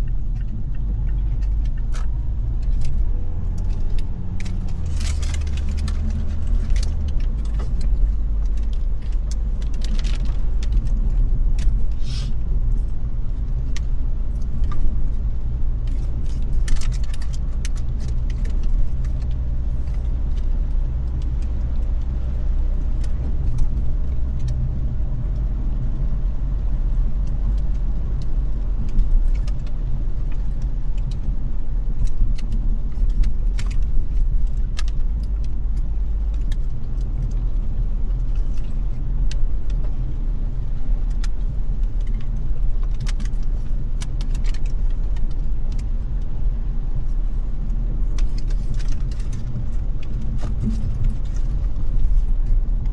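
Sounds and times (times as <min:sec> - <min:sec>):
low road rumble: 0:00.0 - 0:52.9.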